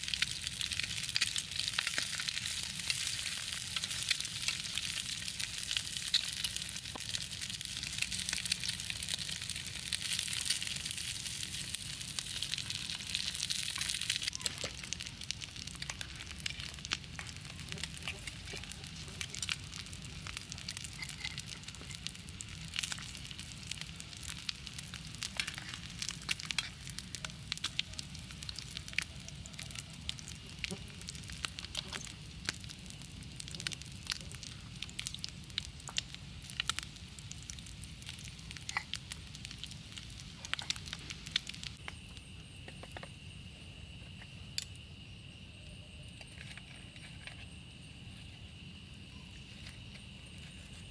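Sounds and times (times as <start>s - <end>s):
food sizzling in a pan: 0.0s - 41.8s
wood fire crackling: 0.0s - 50.9s.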